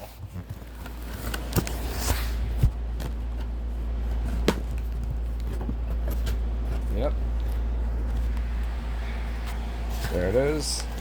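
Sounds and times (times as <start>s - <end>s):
cardboard packaging handled: 0.0s - 8.8s.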